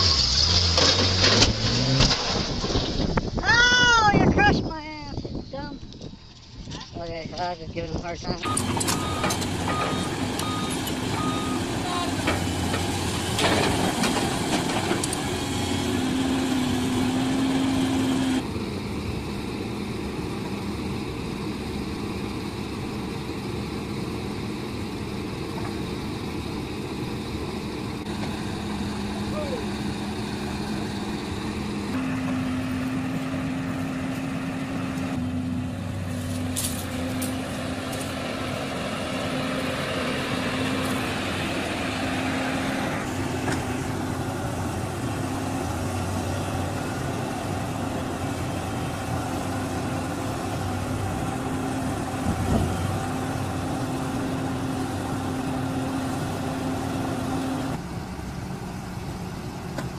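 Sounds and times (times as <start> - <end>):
excavator diesel engine running: 7.3 - 59.9.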